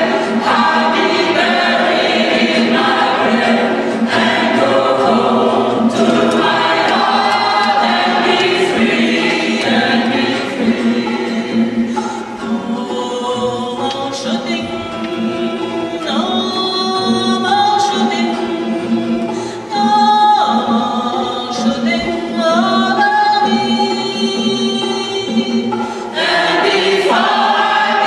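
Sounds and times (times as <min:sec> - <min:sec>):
gospel choir singing: 0:00.0 - 0:28.0
woman singing lead: 0:00.0 - 0:28.0.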